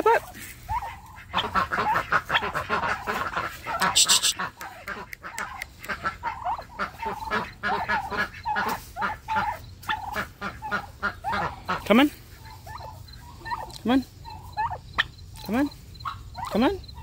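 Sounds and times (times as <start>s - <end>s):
turkeys calling: 0.0s - 17.0s.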